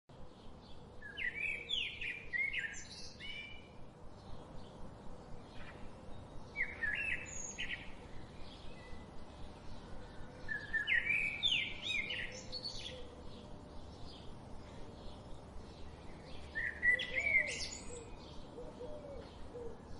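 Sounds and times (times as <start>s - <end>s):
background hiss: 0.1s - 19.9s
birds chirping: 0.2s - 19.9s.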